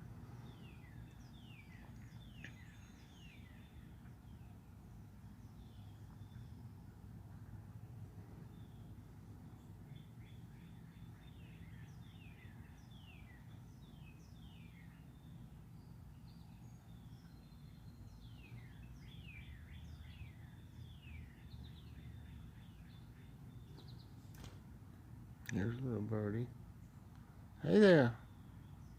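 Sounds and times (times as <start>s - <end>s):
songbird singing: 0.0s - 28.9s
steady low hum: 0.0s - 28.9s.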